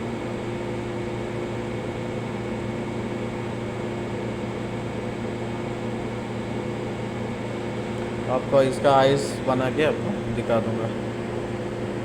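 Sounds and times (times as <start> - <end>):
compressor humming: 0.0 - 12.0.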